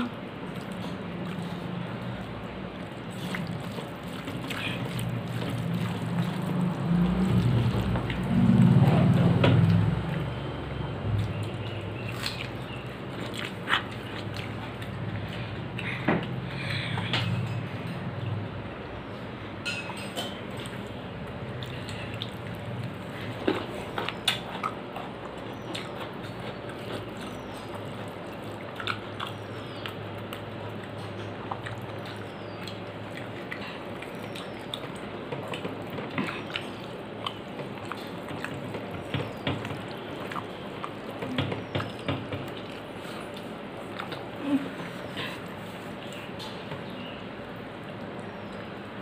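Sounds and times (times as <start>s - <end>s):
wet chewing: 0.0s - 18.3s, 20.1s - 49.0s.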